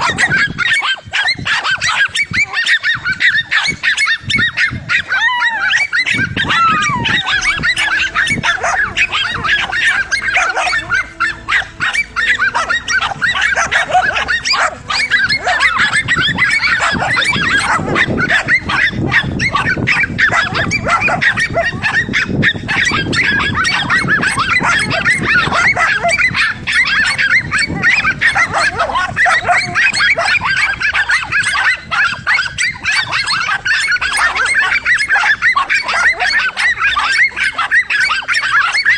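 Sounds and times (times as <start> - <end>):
dogs barking and yapping: 0.0 - 38.9.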